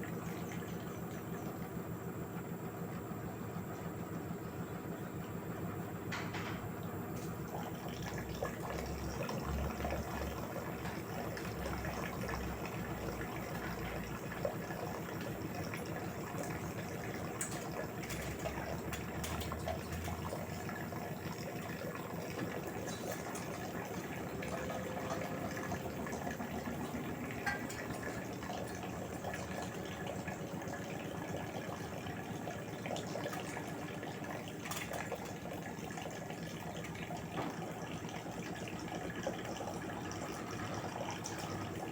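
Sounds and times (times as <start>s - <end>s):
washing machine water sloshing: 0.0s - 41.9s.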